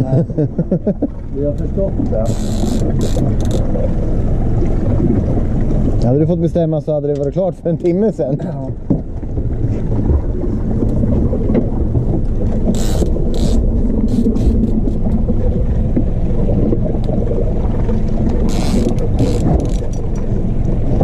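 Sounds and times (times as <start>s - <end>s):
outboard motor running: 0.0s - 21.0s
water noise: 0.0s - 21.0s
wind: 0.0s - 21.0s.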